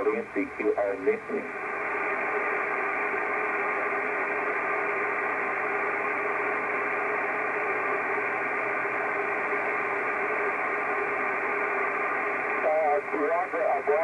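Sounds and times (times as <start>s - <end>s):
faint steady tones: 0.0s - 14.0s
radio band noise hiss: 0.0s - 14.0s.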